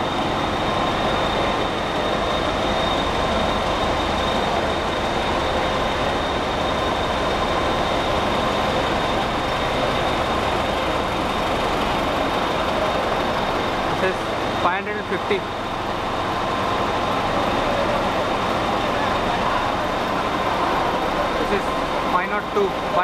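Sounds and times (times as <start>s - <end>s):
diesel locomotive engine idling: 0.0s - 23.0s
high steady whine: 0.0s - 23.0s.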